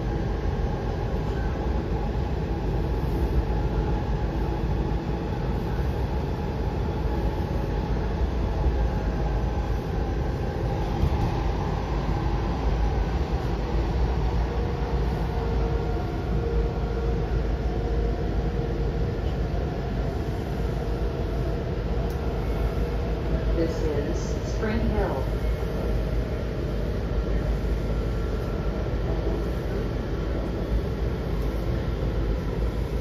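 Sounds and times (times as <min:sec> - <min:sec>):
faint whine: 0:00.0 - 0:33.0
train rumble: 0:00.0 - 0:33.0.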